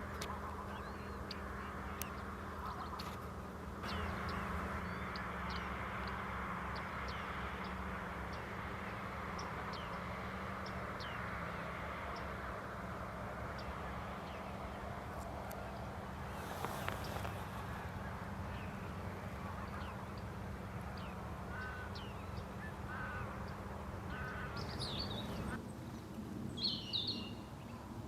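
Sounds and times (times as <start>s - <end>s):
birds calling high notes: 0.1s - 25.6s.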